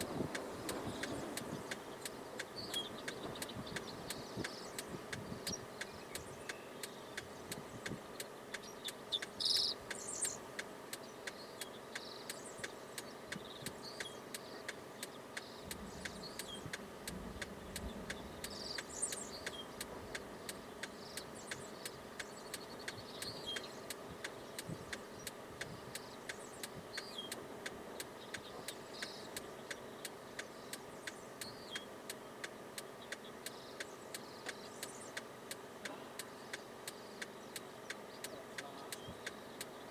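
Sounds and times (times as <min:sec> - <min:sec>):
car indicator clicking: 0:00.0 - 0:39.8
low hum inside car: 0:00.0 - 0:39.9.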